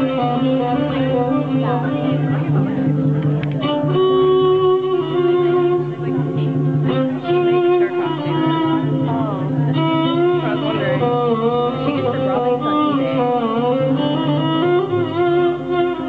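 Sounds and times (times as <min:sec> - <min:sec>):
live band music: 0:00.0 - 0:16.0
sliding melody: 0:00.0 - 0:16.0.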